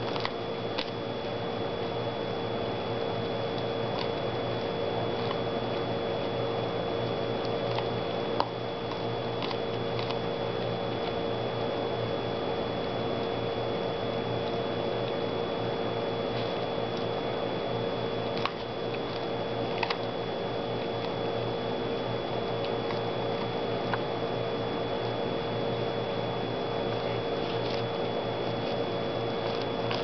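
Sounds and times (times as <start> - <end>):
dog teeth crunching on corn cob: 0.0 - 13.4, 16.2 - 25.1, 26.6 - 30.0
steady hum: 0.0 - 30.0.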